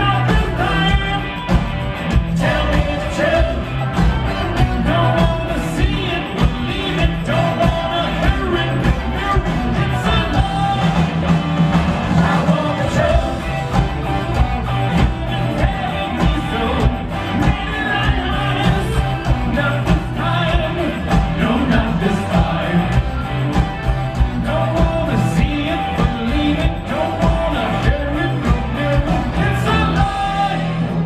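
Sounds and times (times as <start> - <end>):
man singing: 0.0 - 11.3, 12.1 - 23.4, 24.2 - 31.0
live rock band playing: 0.0 - 31.0.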